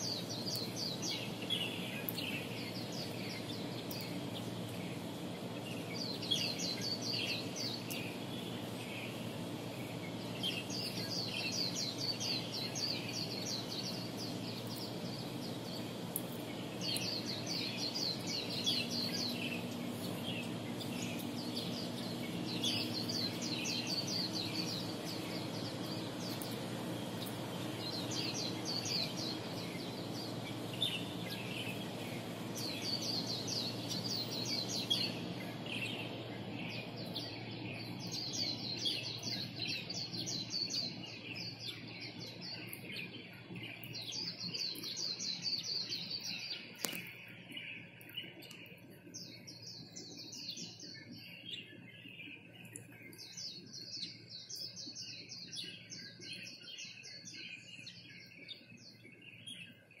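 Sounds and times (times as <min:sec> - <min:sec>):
low steady hum: 0:00.0 - 1:00.0
small birds chirping: 0:00.0 - 1:00.0.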